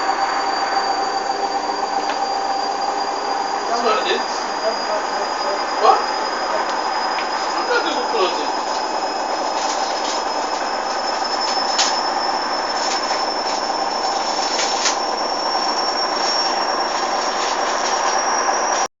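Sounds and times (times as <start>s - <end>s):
thin high whine: 0.0s - 18.9s
washing machine running: 0.0s - 18.9s.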